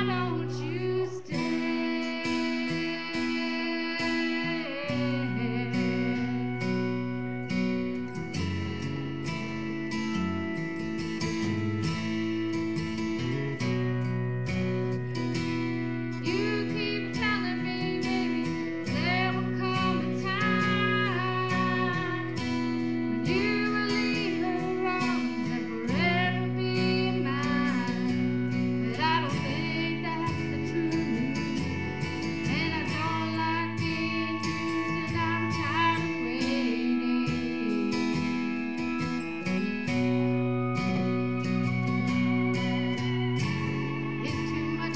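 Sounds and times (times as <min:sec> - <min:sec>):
person singing: 0:00.0 - 0:08.3, 0:15.0 - 0:44.9
guitar playing: 0:00.0 - 0:44.9.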